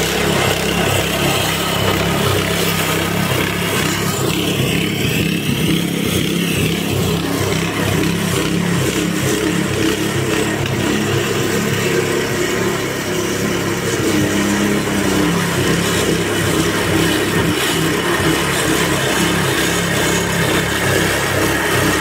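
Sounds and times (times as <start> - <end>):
blades raking thatch: 0.0 - 22.0
lawn scarifier engine humming: 0.0 - 22.0.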